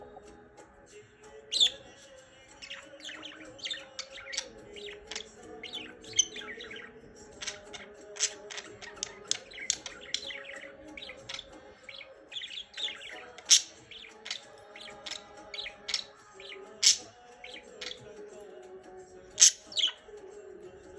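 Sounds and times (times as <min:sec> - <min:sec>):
budgerigars chirping and chattering: 0:01.3 - 0:20.3.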